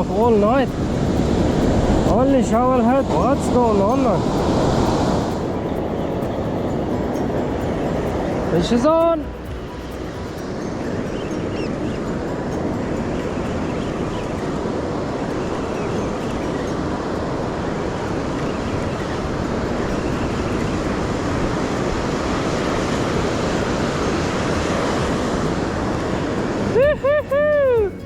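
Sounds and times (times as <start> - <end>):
surf rushing: 0.0 - 28.0
wind: 0.0 - 28.0.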